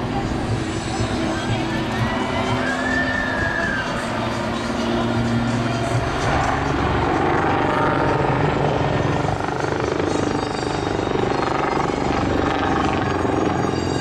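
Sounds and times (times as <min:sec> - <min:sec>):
helicopter rotor beating: 0:00.0 - 0:14.0.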